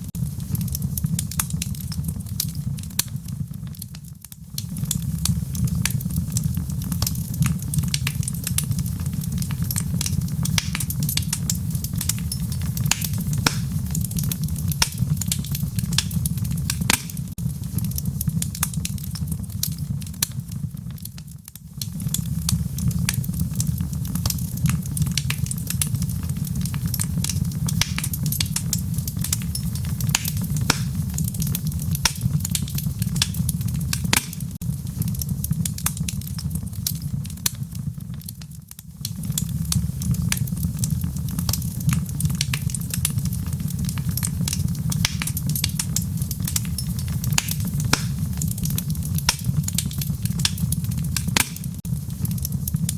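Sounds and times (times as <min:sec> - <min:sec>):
fire crackling and popping: 0:00.0 - 0:52.9
low fire rumble: 0:00.0 - 0:52.9.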